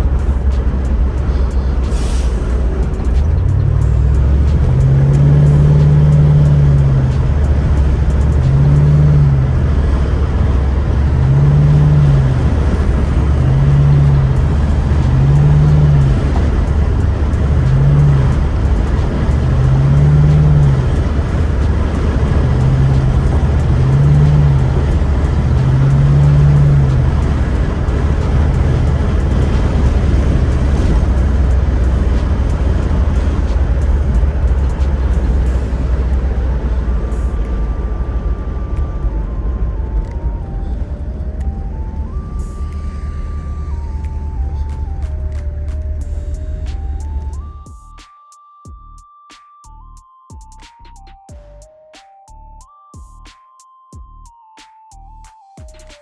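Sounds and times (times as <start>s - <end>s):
car engine and road noise rumble: 0.0s - 48.0s, 49.7s - 51.7s
car stereo music with deep bass: 0.0s - 56.0s.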